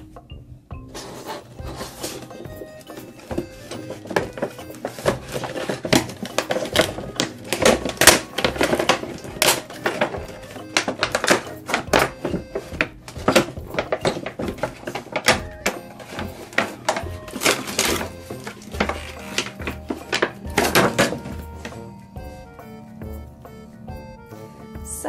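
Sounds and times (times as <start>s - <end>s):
cardboard box rustling and knocking: 0.9s - 21.8s
plastic packaging crinkling: 1.0s - 22.0s.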